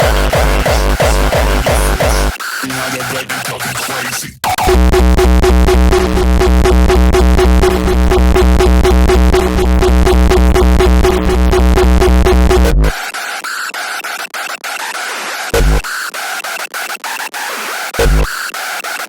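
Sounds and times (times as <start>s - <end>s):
hardcore electronic music: 0.0s - 19.0s.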